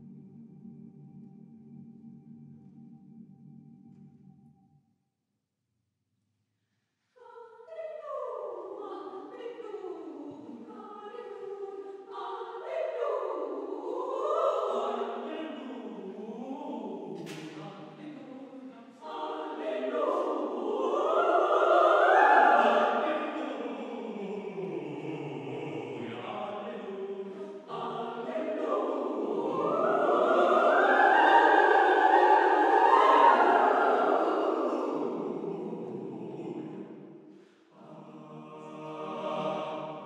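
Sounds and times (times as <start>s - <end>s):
choir singing: 7.2s - 40.0s.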